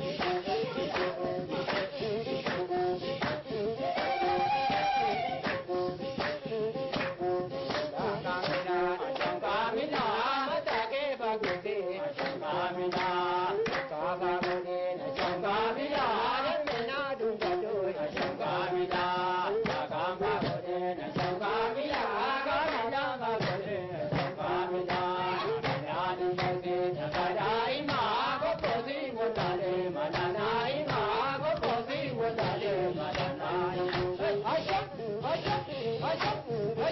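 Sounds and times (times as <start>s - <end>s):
group chant-like singing: 0.0s - 5.6s, 6.2s - 36.9s
rhythmic hand clapping: 0.0s - 36.9s.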